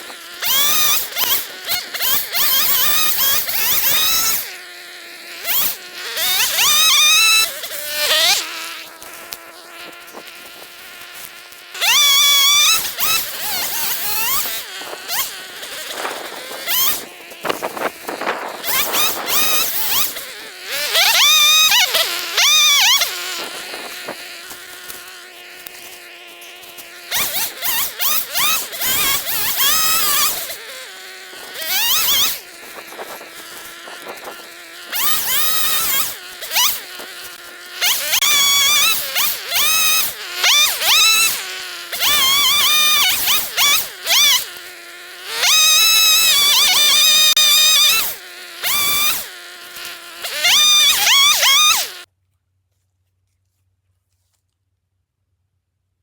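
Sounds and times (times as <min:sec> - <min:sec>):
chainsaw revving and idling: 0:00.0 - 0:52.1.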